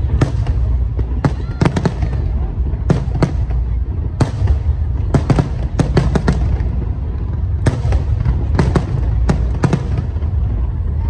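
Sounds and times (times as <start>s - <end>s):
fireworks bangs: 0.0s - 11.0s
low rumble: 0.0s - 11.0s.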